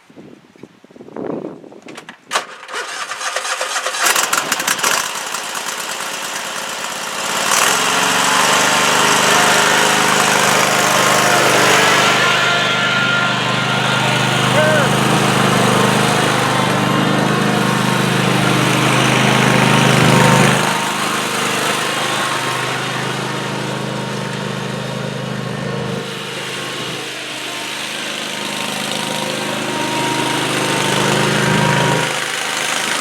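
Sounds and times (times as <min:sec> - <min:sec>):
lawn tractor engine running: 0:02.3 - 0:33.0.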